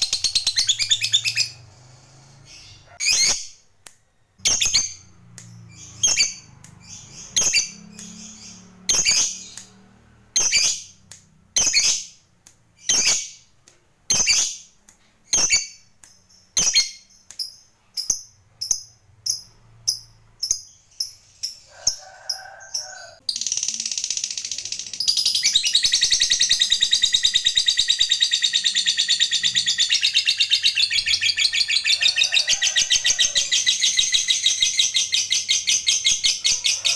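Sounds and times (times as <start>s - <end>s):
lovebird chirping: 0.0s - 13.5s, 14.1s - 22.0s, 22.6s - 36.8s.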